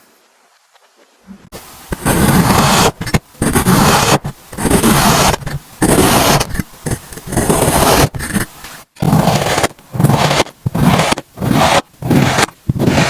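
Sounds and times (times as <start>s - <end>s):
sand scraped and crushed: 1.5s - 13.0s.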